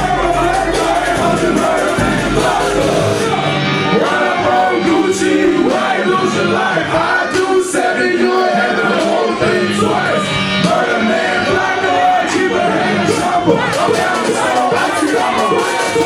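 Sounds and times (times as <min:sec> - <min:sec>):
hip-hop music over sound system: 0:00.0 - 0:16.0
rapping over a beat: 0:00.0 - 0:16.0.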